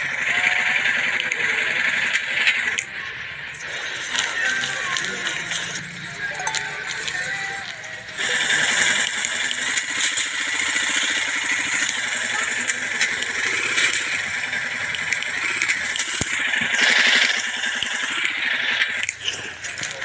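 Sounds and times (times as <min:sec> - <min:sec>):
loud steady hiss: 0:00.0 - 0:20.0
motorcycle engine running: 0:00.0 - 0:20.0.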